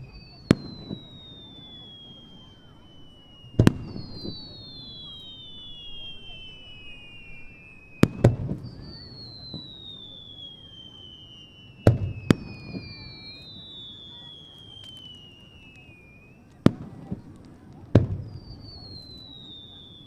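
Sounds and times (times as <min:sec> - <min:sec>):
high falling whistling tones: 0:00.0 - 0:16.6
distant fireworks bangs: 0:00.0 - 0:20.0.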